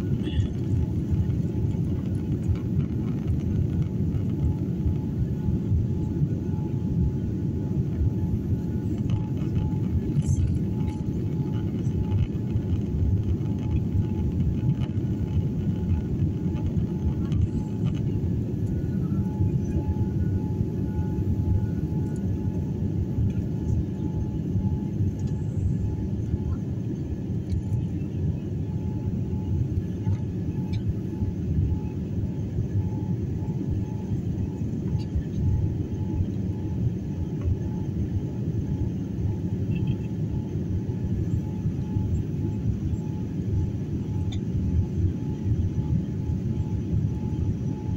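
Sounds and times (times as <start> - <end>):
faint steady hum: 0.0 - 47.9
jet engines rumbling in cabin: 0.0 - 47.9.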